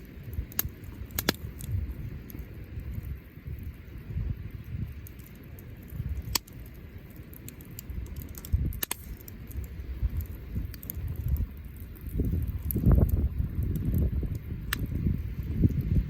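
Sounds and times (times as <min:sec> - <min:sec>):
sharp fire pops: 0:00.0 - 0:16.0
wood bonfire crackling: 0:00.0 - 0:16.0.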